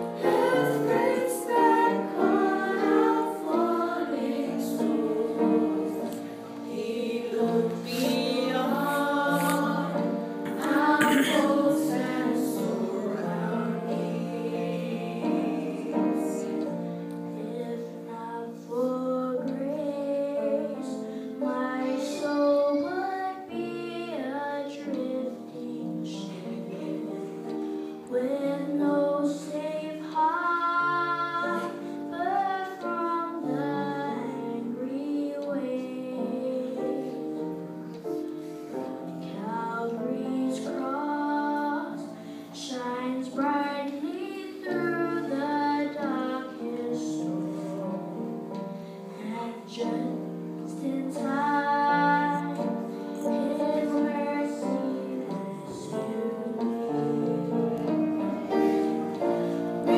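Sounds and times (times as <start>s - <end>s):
child singing into microphone: 0.0s - 38.0s, 38.8s - 59.9s
instrumental accompaniment: 0.0s - 59.9s.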